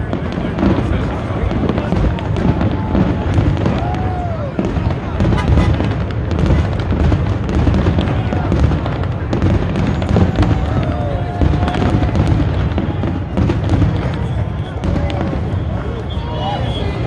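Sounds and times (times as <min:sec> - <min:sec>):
fireworks booming: 0:00.0 - 0:17.0
fireworks crackling: 0:00.0 - 0:17.0.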